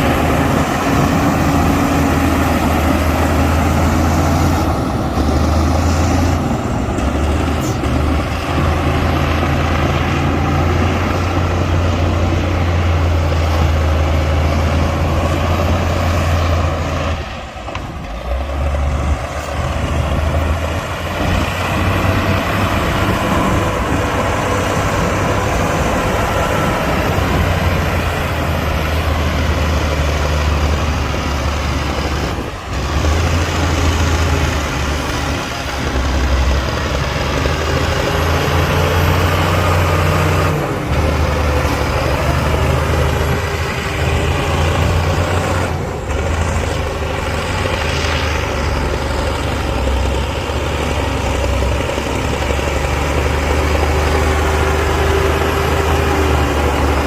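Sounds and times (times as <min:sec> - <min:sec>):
diesel earthmoving machine running: 0:00.0 - 0:57.0.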